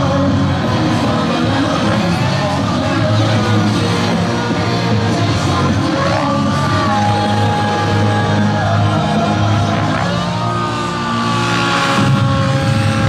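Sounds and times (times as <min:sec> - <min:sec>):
rock music over loudspeakers: 0:00.0 - 0:13.0.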